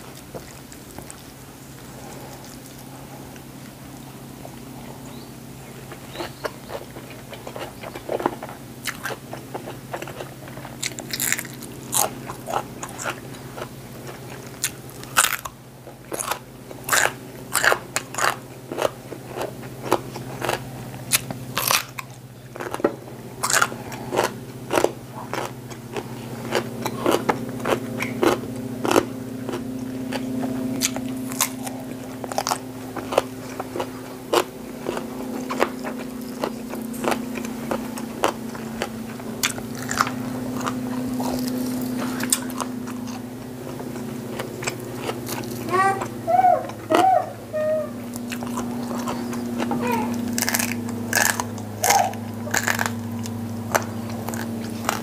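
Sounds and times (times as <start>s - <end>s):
crunching raw vegetables: 0.0s - 55.0s
steady low hum: 0.0s - 55.0s.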